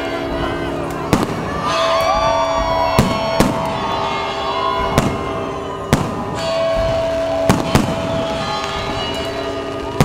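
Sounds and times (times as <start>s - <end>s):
fireworks bangs: 1.0s - 10.0s.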